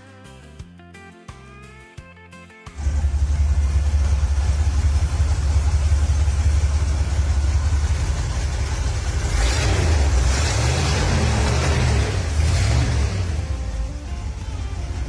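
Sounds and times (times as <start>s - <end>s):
car engine rumbling: 2.8s - 15.0s.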